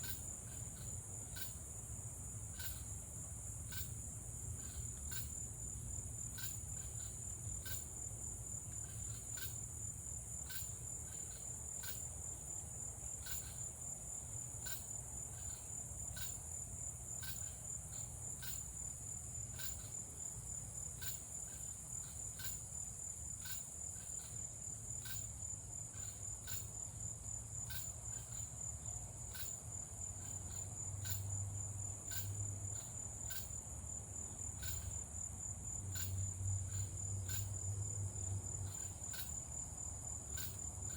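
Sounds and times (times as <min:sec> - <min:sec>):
crickets trilling: 0:00.0 - 0:40.9
insect chirping rhythmically: 0:00.0 - 0:40.9.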